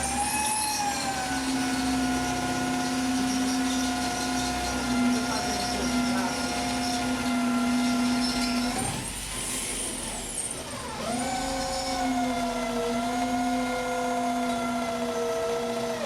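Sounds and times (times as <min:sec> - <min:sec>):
machine motor whining: 0:00.0 - 0:16.0.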